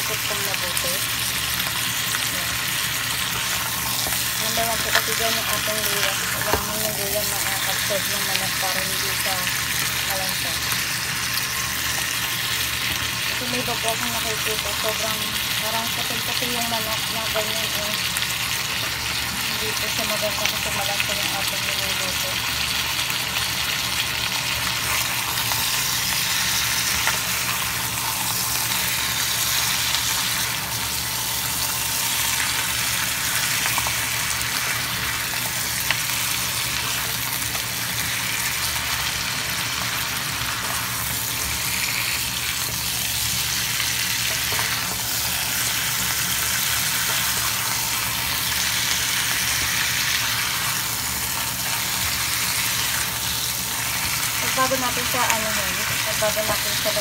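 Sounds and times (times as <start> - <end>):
chicken sizzling in a wok: 0.0 - 57.0.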